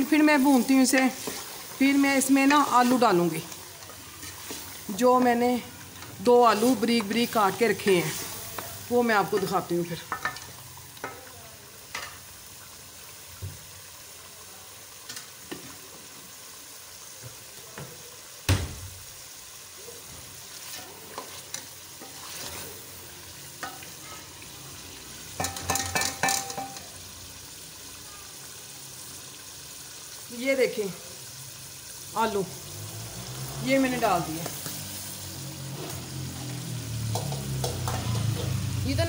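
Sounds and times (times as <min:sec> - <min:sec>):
chicken sizzling in a pot: 0:00.0 - 0:39.0.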